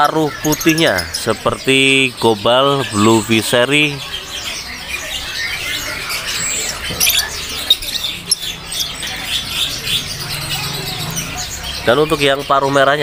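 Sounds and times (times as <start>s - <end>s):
lovebirds chirping and squawking: 0.0s - 13.0s.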